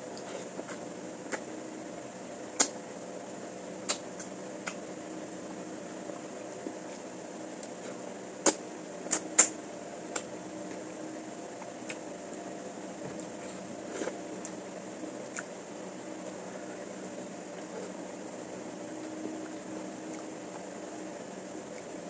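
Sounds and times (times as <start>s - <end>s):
steady fan hum: 0.0s - 22.0s.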